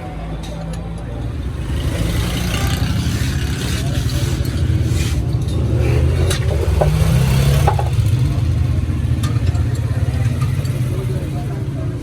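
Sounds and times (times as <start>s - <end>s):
large vehicle engine rumbling: 1.0s - 12.0s.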